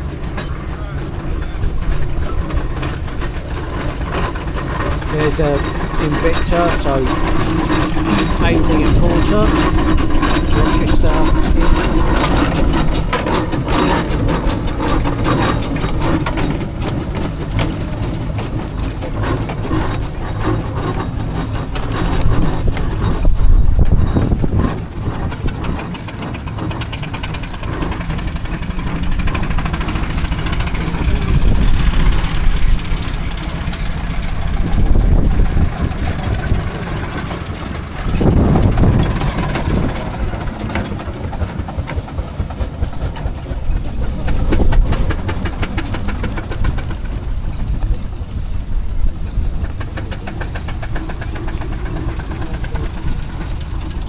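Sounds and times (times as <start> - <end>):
mechanical clatter: 0.0 - 54.0
steam engines running past: 0.0 - 54.0.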